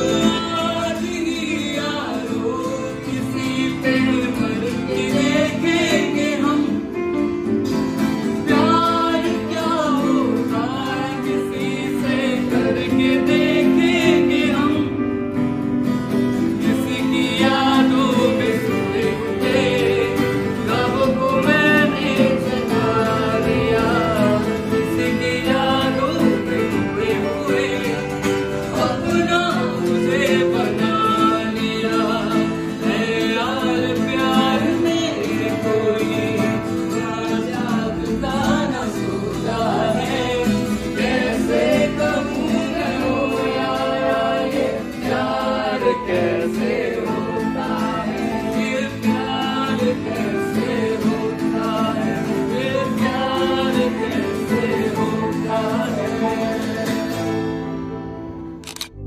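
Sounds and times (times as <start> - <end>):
song with singing and guitar: 0.0 - 59.0.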